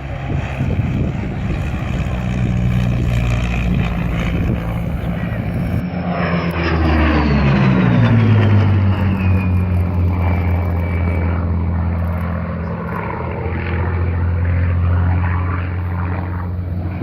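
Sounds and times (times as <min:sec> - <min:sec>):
propeller aircraft flying past: 0:00.0 - 0:17.0.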